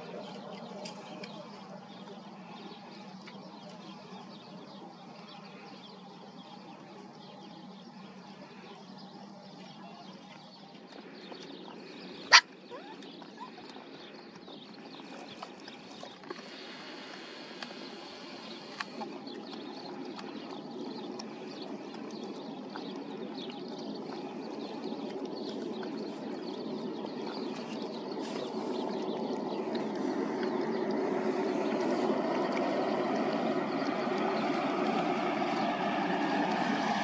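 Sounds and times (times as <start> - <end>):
low background rumble: 0.0 - 37.0
puppies chewing and lapping: 0.0 - 37.0.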